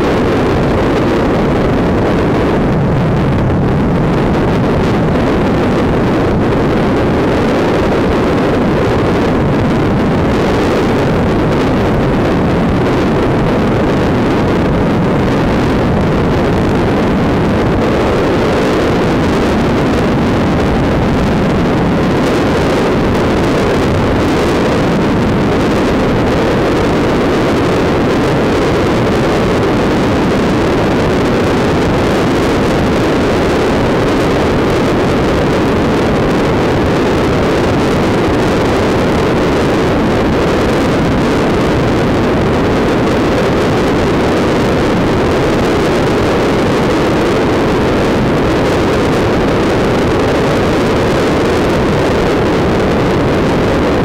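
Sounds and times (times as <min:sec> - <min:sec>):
motorcycle engine drone with wind: 0:00.0 - 0:54.0.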